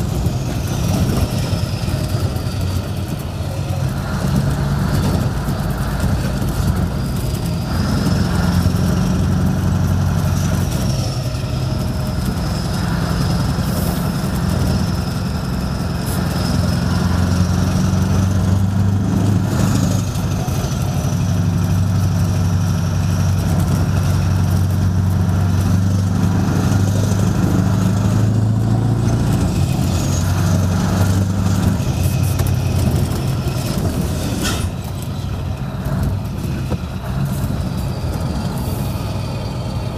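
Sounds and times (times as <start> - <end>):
diesel truck engine: 0.0 - 39.9.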